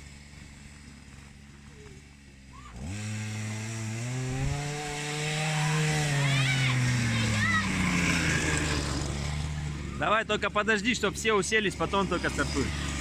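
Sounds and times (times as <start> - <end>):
small petrol engine revving: 0.0 - 13.0.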